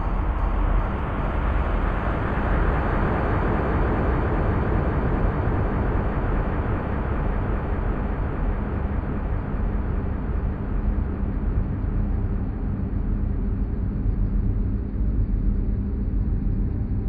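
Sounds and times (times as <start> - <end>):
dark ambient drone music: 0.0 - 17.0.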